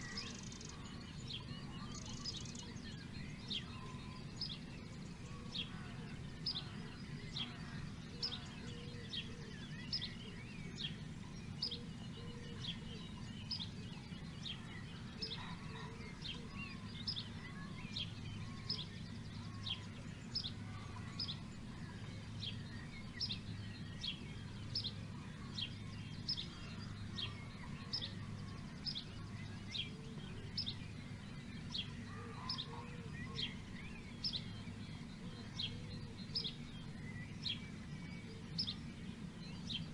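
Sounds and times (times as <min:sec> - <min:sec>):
bird chirping: 0:00.0 - 0:39.9
low background rumble: 0:00.0 - 0:39.9.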